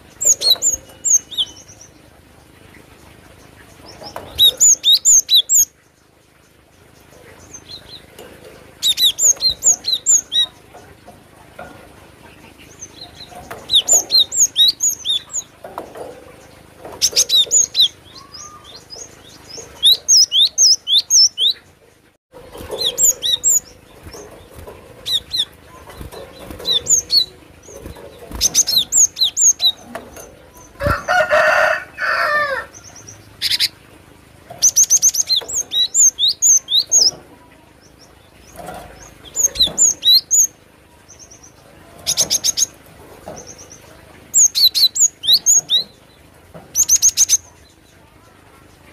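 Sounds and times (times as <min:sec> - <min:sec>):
bird chirping song: 0:00.0 - 0:31.3, 0:32.3 - 0:48.4.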